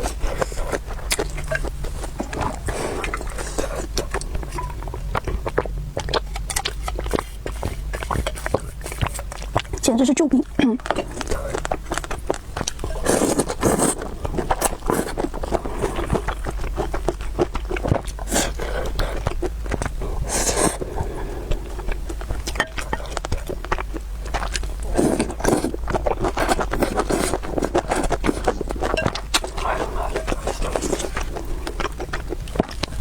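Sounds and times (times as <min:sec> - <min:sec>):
low steady hum: 0:00.0 - 0:33.0
person chewing food: 0:00.0 - 0:33.0.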